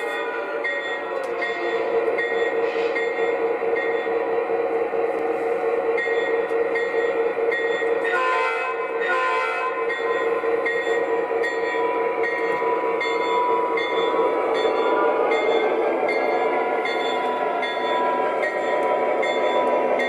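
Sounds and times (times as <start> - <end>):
locomotive bell ringing: 0.0 - 20.0.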